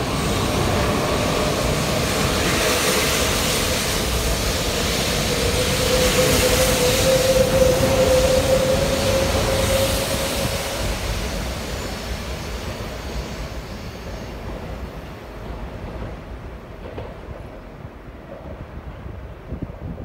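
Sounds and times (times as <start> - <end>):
train rushing with a whine: 0.0 - 17.3.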